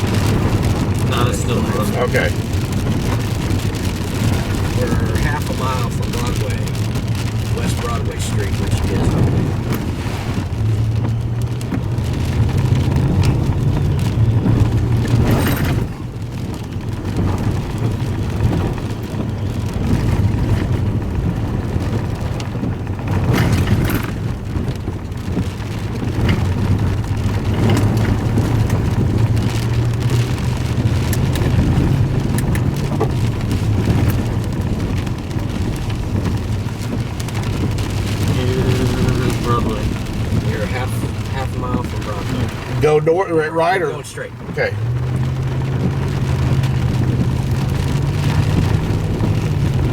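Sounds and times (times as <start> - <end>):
engine and tyres rumbling: 0.0 - 49.9
rain on vehicle: 0.0 - 49.9.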